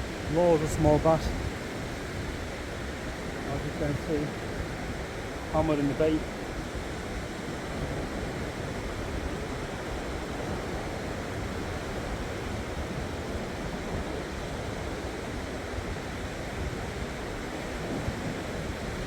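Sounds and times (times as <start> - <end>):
sea surf washing: 0.0 - 19.0.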